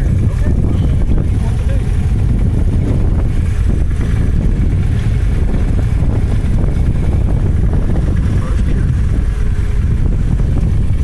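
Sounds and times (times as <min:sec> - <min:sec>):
vehicle engine rumbling: 0:00.0 - 0:11.0
wind buffeting microphone: 0:00.0 - 0:11.0.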